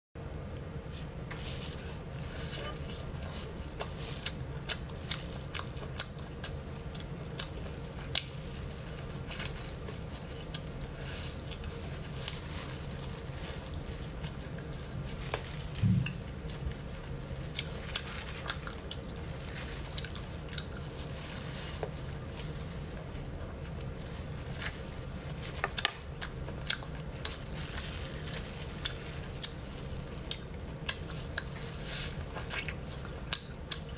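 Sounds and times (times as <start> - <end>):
steady low hum: 0.2 - 33.9
close chewing and mouth sounds: 1.7 - 33.9.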